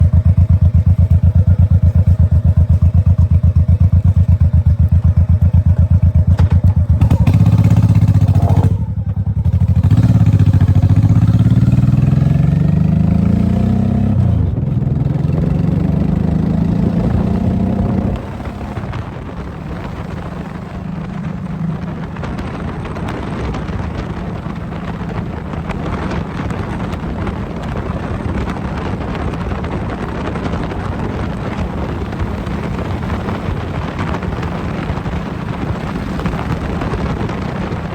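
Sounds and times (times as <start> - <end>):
motorcycle engine: 0.0 - 37.9
wind on microphone: 0.0 - 37.9.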